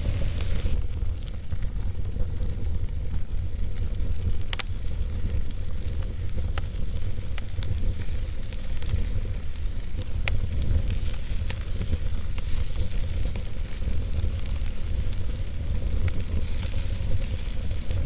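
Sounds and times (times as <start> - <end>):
fire burning with crackles: 0.0 - 18.0.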